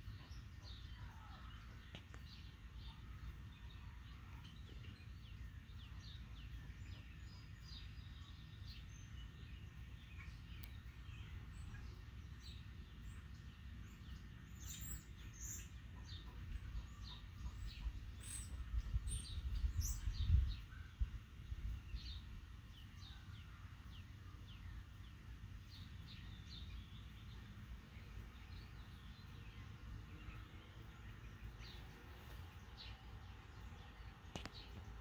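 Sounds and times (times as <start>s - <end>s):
low steady rumble: 0.0s - 35.0s
small birds chirping: 0.0s - 35.0s.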